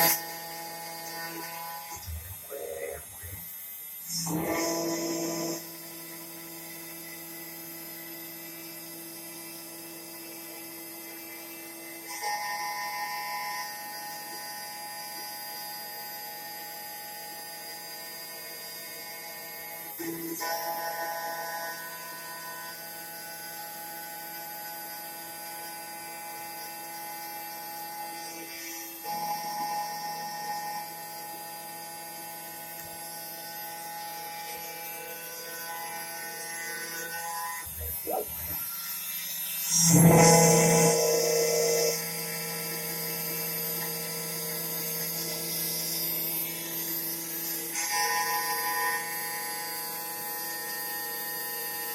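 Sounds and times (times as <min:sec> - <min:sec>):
milling machine whine: 0:00.0 - 0:51.9.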